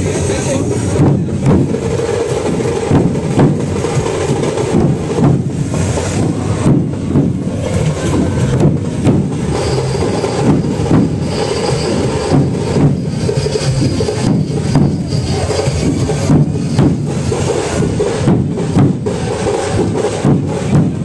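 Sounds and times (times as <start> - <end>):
large drums pounding: 0.0 - 21.0.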